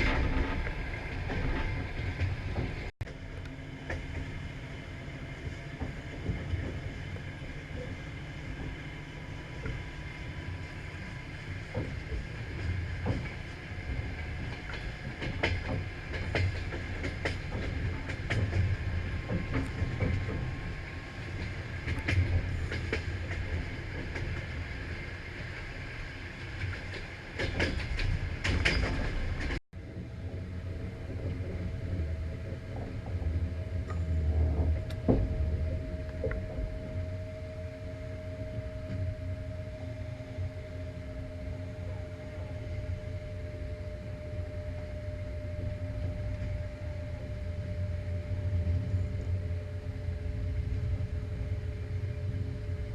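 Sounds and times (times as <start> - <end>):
train rumbling on rails: 0.0 - 52.9.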